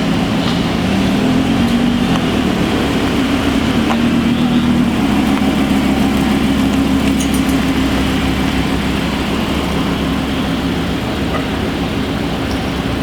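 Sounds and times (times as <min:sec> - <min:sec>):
supercar engine idling: 0:00.0 - 0:13.0.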